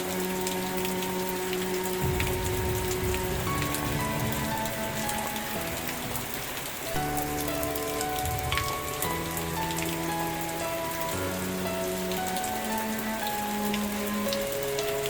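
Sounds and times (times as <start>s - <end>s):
soft background music chords: 0.0s - 15.0s
steady rain falling: 0.0s - 15.0s.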